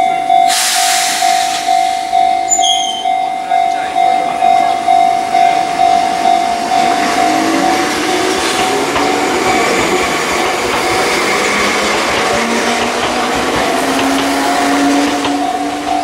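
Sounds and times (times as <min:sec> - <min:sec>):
crossing warning bell ringing: 0:00.0 - 0:16.0
passing train cars: 0:00.0 - 0:16.0
train motors whining: 0:00.9 - 0:16.0.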